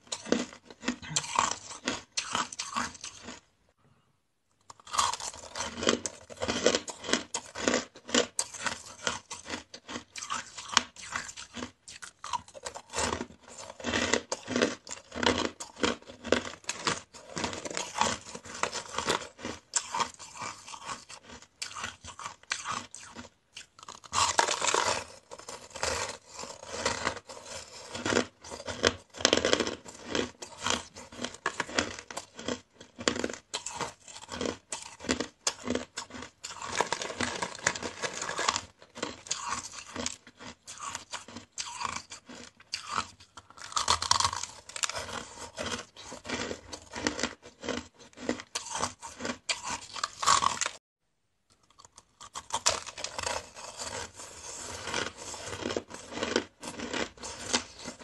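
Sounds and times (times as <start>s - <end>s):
crushed ice being chewed: 0.0s - 3.5s, 4.6s - 50.8s, 51.5s - 58.0s.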